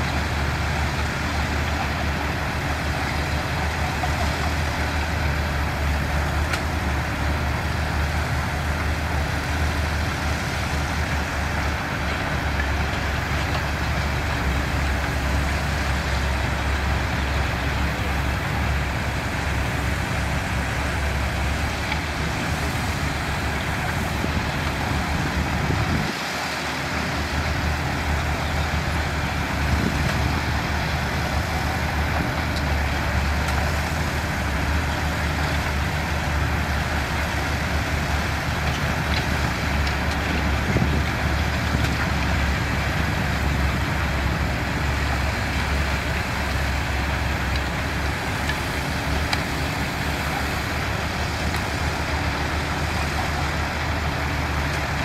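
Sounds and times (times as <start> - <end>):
heavy machinery diesel engines rumbling: 0.0 - 55.0.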